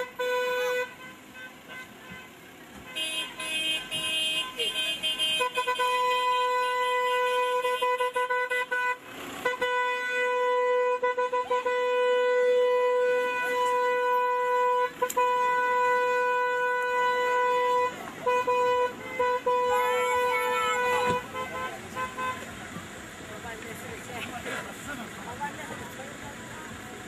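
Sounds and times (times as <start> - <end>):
car horn blasts: 0.0 - 22.6.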